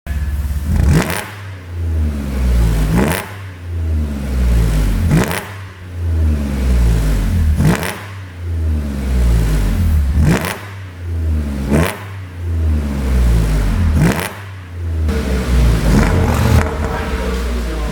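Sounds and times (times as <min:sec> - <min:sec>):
exhaust popping: 0:00.0 - 0:17.9
car engine revving: 0:00.1 - 0:17.9.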